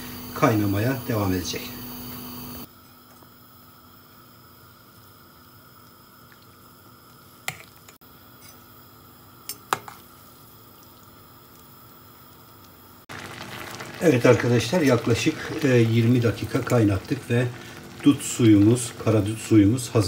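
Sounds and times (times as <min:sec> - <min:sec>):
faint kitchen hum: 0:00.0 - 0:20.0.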